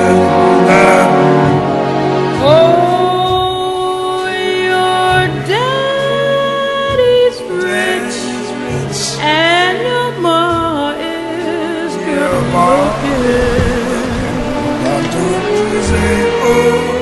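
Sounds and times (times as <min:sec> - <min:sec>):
low backing music: 0:00.0 - 0:17.0
person singing long held notes: 0:02.3 - 0:17.0.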